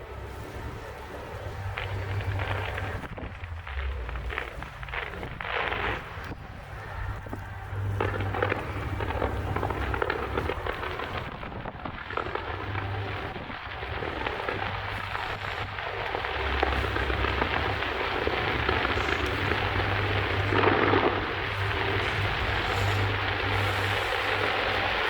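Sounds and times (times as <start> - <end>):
fireworks crackling: 0.0 - 25.0
steady low hum: 0.0 - 25.0.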